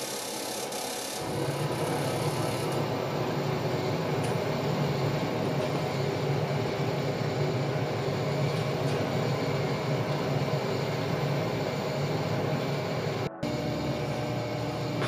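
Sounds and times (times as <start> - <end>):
coffee roaster motor and fan: 0.0 - 15.0.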